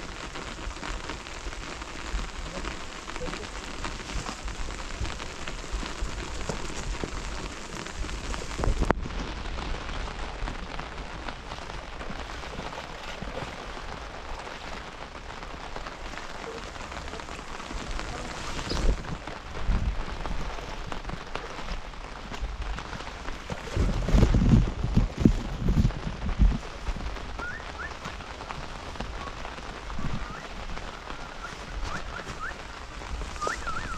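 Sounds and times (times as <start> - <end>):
rain pattering on surfaces: 0.0 - 33.9.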